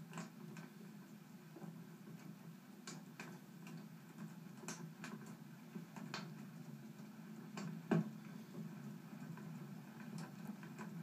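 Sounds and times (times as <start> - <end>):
wood fire crackling and popping: 2.2 - 11.0.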